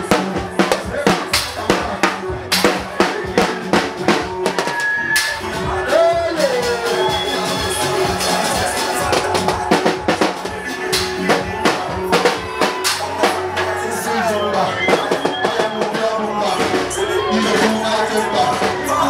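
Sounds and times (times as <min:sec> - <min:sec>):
dance music with drum kit: 0:00.0 - 0:19.0.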